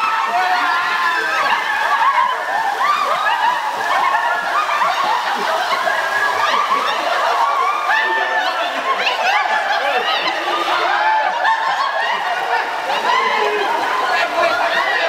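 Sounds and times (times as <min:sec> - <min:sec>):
people laughing and shouting: 0:00.0 - 0:15.0
splashing in shallow water: 0:00.0 - 0:15.0.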